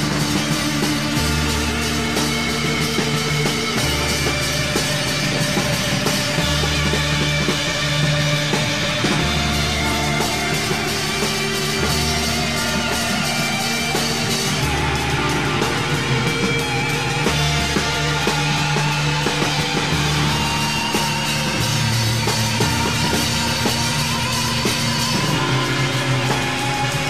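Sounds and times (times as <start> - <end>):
rock music with guitars and bass: 0.0 - 27.0.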